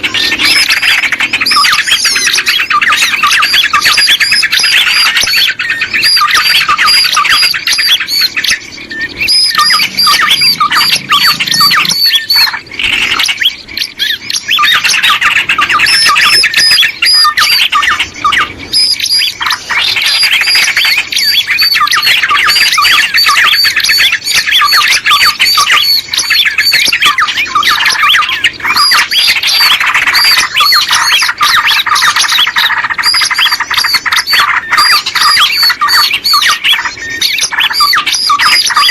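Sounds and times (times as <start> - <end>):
small birds chattering: 0.0 - 38.9.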